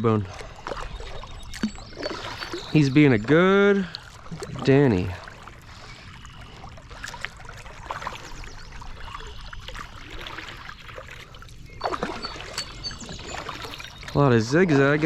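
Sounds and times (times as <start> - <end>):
paddle splashing in water: 0.2 - 15.0
water dripping off paddle: 0.3 - 15.0.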